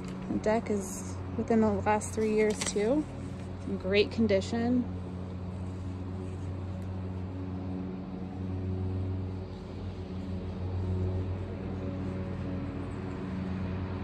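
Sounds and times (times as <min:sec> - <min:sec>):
lawn mower engine droning: 0:00.0 - 0:14.0.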